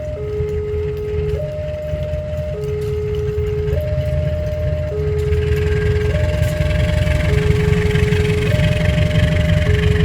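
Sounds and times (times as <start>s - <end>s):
electronic two-tone warning alarm: 0.0s - 10.0s
heavy low rumble: 0.0s - 10.0s.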